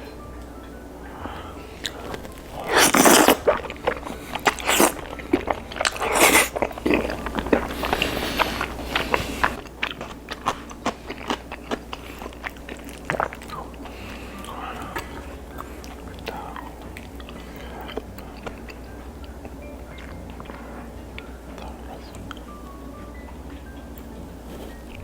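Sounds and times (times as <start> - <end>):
mouth clicks: 1.1 - 22.5
crunching fried chicken: 1.1 - 25.0.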